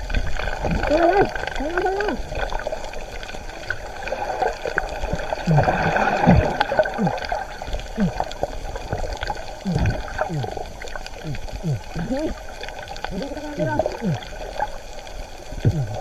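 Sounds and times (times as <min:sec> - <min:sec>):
muffled underwater gurgling: 0:00.0 - 0:16.0.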